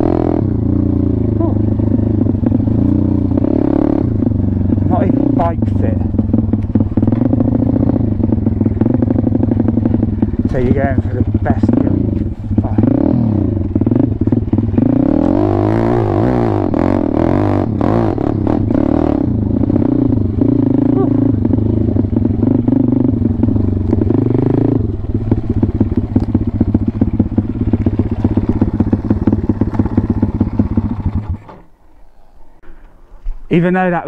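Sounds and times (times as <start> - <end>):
motorbike engine revving and idling: 0.0 - 32.6.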